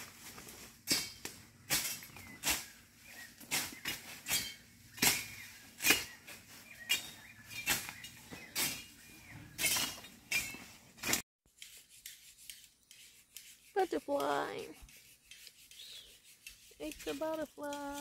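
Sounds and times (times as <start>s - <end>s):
blade swishing through weeds: 0.0s - 18.0s.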